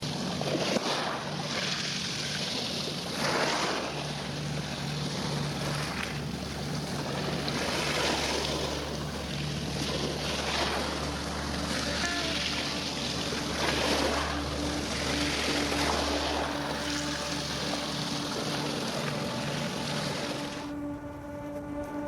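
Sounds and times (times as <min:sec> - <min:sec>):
low mechanical hum: 0:00.0 - 0:22.0
water by shore: 0:00.0 - 0:22.0.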